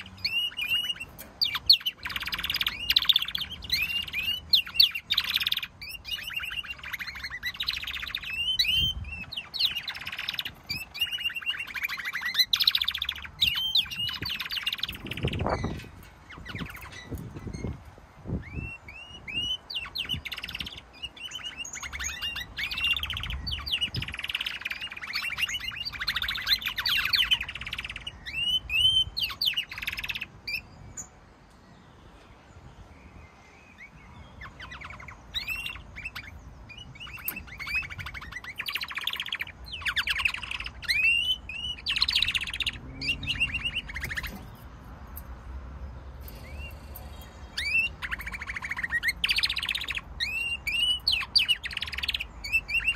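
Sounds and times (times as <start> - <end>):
canaries singing trills: 0.0 - 52.9.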